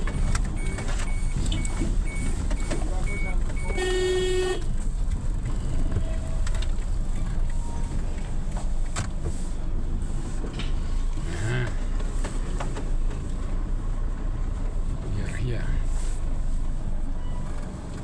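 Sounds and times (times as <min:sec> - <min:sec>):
vehicle driving rumble: 0:00.0 - 0:18.0.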